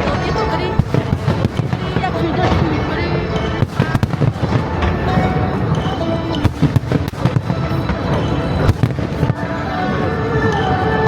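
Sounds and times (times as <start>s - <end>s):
fireworks bangs: 0.0s - 10.6s
music playing: 0.0s - 11.0s.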